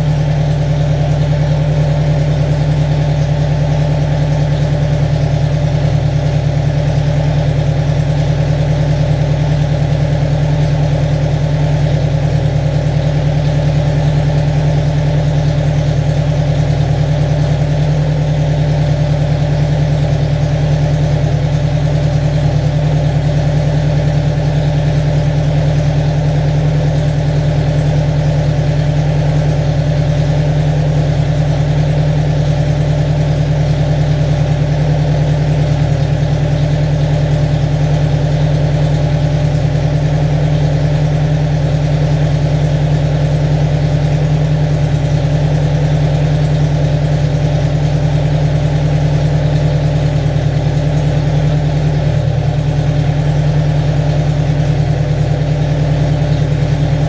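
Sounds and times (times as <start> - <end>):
car engine running steadily: 0.0 - 57.0.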